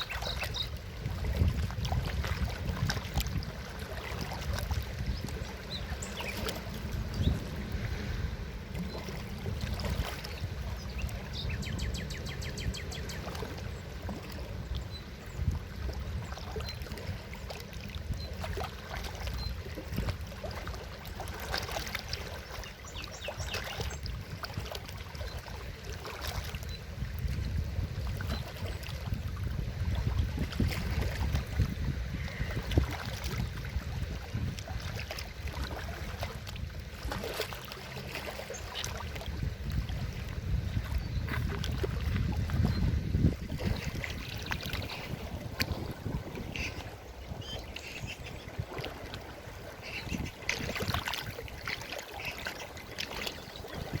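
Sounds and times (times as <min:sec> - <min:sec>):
river water flowing: 0:00.0 - 0:27.4, 0:28.0 - 0:54.0
small water splashes: 0:00.0 - 0:54.0.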